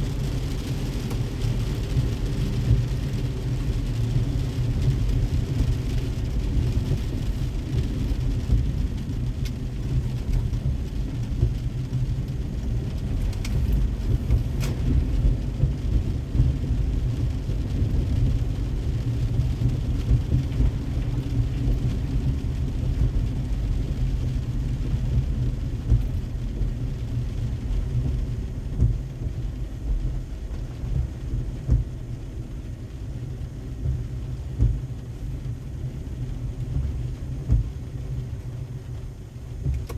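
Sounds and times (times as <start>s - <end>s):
rain hiss: 0.0s - 39.9s
road and engine rumble: 0.0s - 39.9s.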